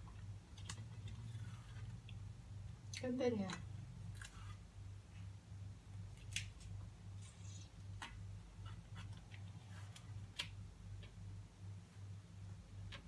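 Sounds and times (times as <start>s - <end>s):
induction cooktop pulsing hum: 0.0s - 13.0s.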